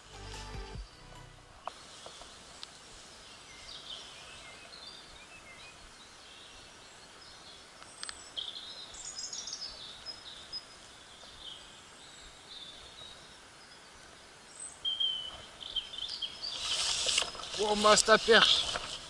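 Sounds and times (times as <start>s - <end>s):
outdoor hiss: 0.0s - 19.0s
small birds chirping: 1.7s - 19.0s.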